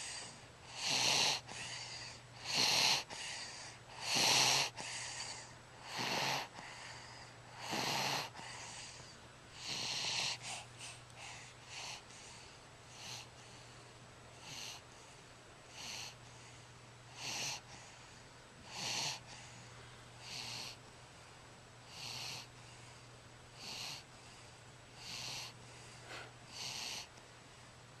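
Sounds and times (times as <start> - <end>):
wheezy hissing snores: 0.0 - 13.7, 14.3 - 15.1, 15.7 - 16.5, 17.1 - 18.0, 18.6 - 20.8, 21.9 - 23.0, 23.6 - 27.1
steady low hum: 0.0 - 28.0.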